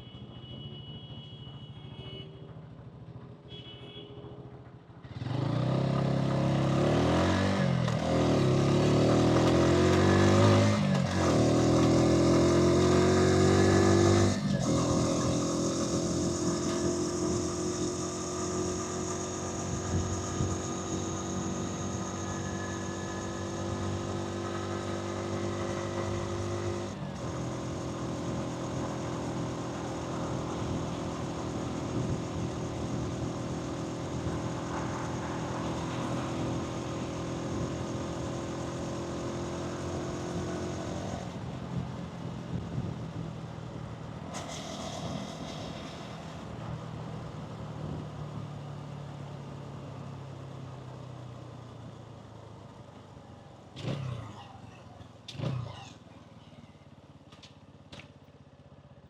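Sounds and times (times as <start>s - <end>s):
motorcycle engine and exhaust: 0.0s - 59.0s
road and wind noise: 0.0s - 59.0s.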